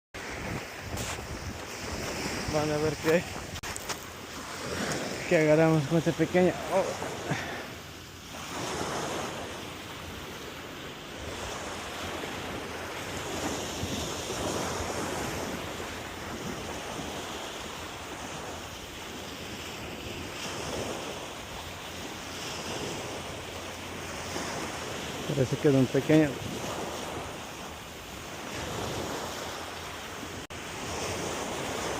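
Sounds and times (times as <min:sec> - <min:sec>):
sea waves washing: 0:00.2 - 0:31.9
wind blowing on microphone: 0:00.2 - 0:31.9.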